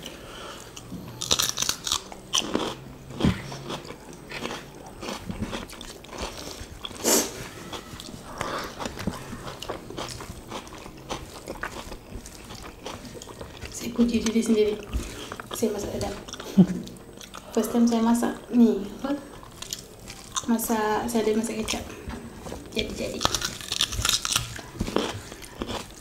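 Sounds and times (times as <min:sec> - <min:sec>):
crunchy cucumber chewing: 0:00.7 - 0:17.6, 0:19.3 - 0:20.8, 0:21.5 - 0:26.0.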